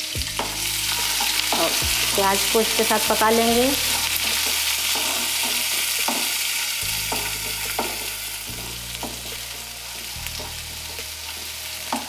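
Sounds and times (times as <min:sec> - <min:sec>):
onion sizzling in hot oil: 0:00.0 - 0:12.0
stirring strokes scraping pan: 0:00.2 - 0:12.0.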